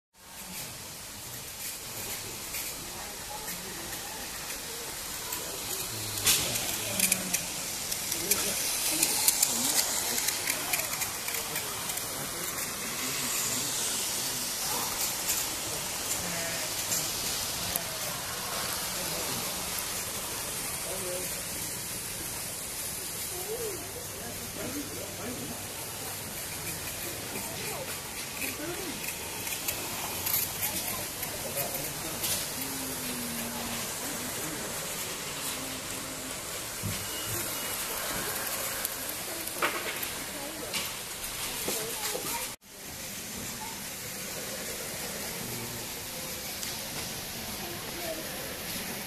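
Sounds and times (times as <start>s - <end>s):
model trains whirring on track: 0.2s - 49.0s
faint voices: 0.3s - 49.0s.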